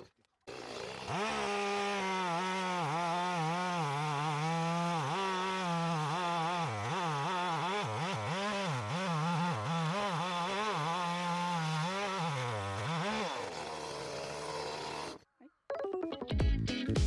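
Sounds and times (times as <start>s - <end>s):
chainsaw cutting wood: 0.0s - 15.2s.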